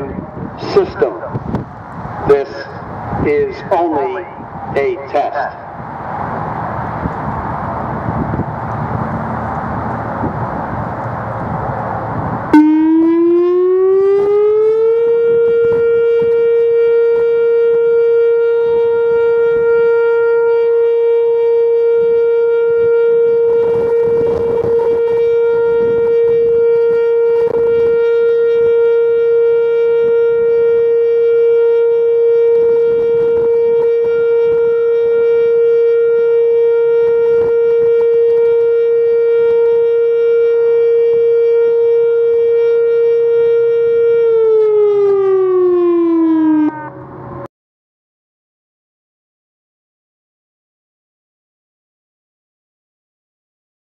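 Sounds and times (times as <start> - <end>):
wind buffeting microphone: 0.0 - 47.4
warning siren steady tone: 0.0 - 47.5.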